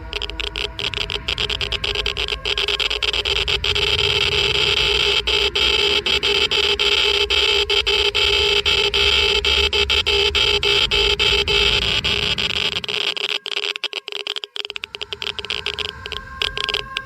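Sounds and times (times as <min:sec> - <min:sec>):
geiger counter crackling: 0:00.0 - 0:17.0
steady electronic tones: 0:00.0 - 0:17.0.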